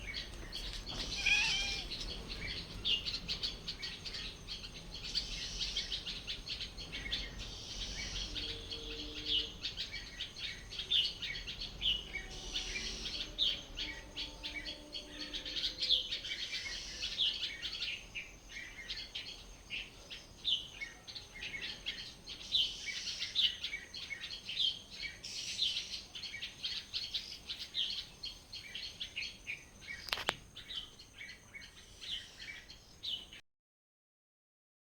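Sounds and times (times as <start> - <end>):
small birds chirping: 0.0 - 33.4.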